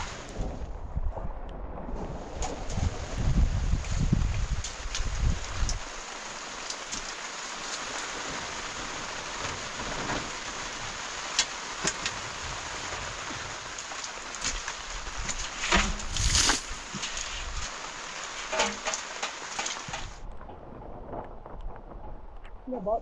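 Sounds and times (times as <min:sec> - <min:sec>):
steady rain hiss: 0:00.0 - 0:01.0, 0:02.0 - 0:23.0.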